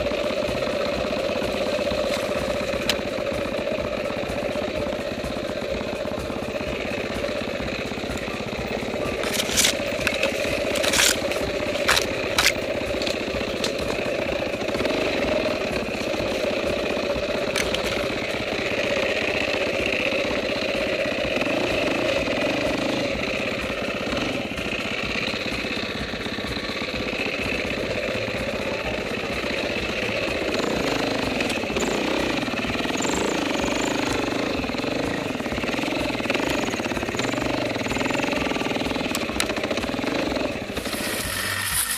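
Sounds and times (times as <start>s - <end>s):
dirt bike engine running: 0.0s - 41.9s.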